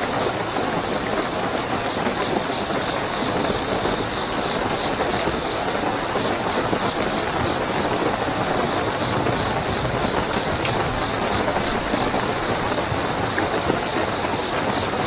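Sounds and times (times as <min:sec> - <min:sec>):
crickets chirping: 0:00.0 - 0:15.0
heavy rainfall: 0:00.0 - 0:15.0.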